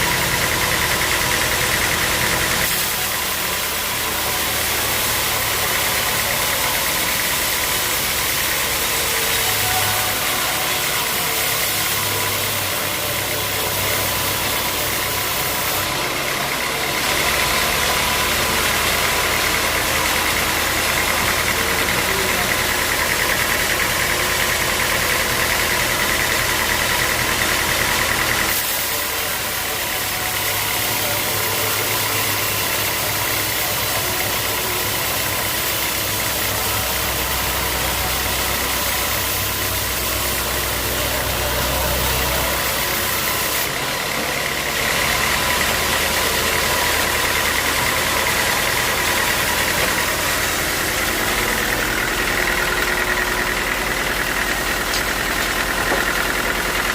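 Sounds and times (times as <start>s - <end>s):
saw whining: 0.0s - 56.9s.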